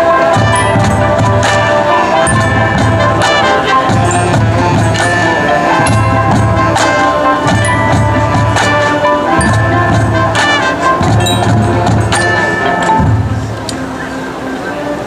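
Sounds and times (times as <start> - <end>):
mallet percussion: 0.0 - 14.5
brass chords: 0.0 - 15.0
drum hits: 0.3 - 13.7.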